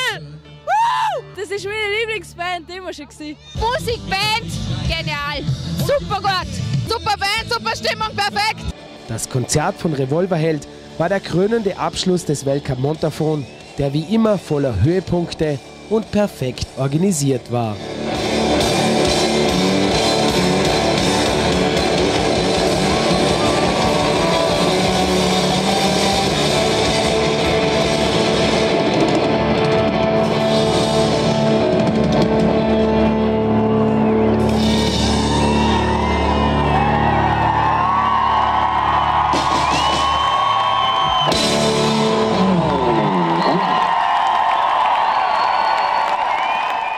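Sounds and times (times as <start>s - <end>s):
rock band music: 1.2s - 44.2s.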